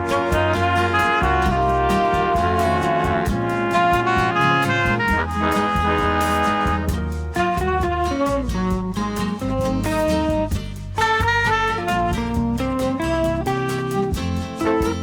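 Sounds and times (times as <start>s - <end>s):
easy-listening instrumental music: 0.0s - 15.0s.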